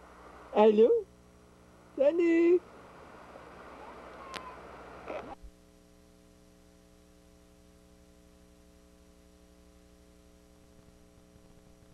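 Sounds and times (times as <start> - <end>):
faint electrical hum: 0.0 - 11.9.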